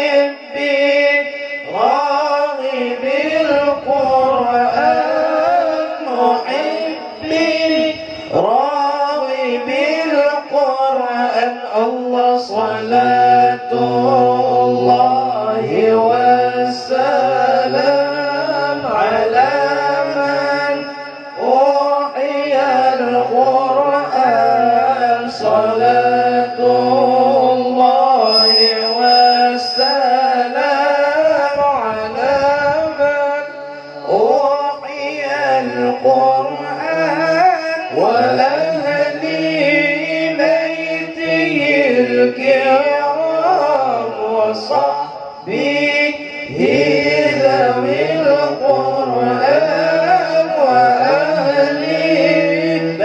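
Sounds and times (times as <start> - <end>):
men chanting through microphones: 0.0 - 53.0.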